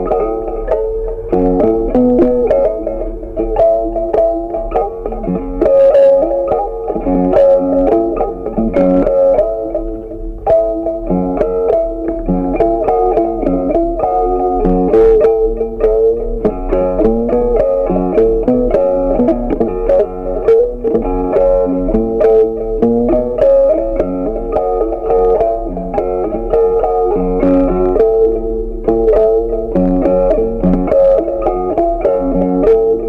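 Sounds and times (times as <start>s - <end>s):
plucked guitar with bass line: 0.0s - 33.0s.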